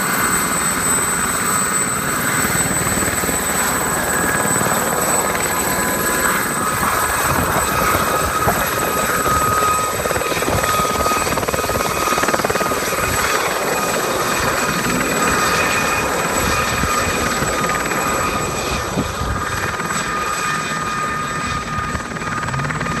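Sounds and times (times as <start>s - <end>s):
helicopter rotor with high whine: 0.0s - 23.0s.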